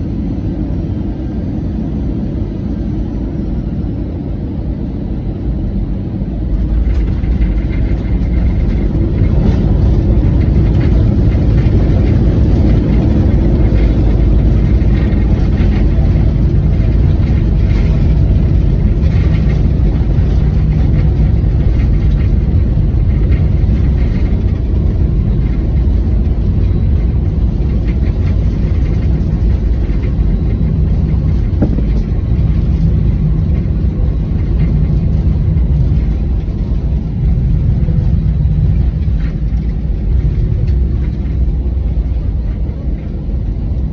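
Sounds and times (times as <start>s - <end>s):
airplane cabin rumble: 0.0s - 43.9s.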